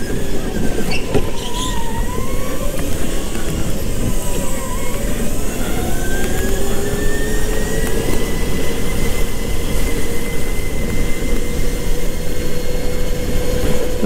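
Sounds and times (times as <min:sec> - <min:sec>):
go-kart engine whine: 0:00.0 - 0:14.0
wind and tyre rumble: 0:00.0 - 0:14.0.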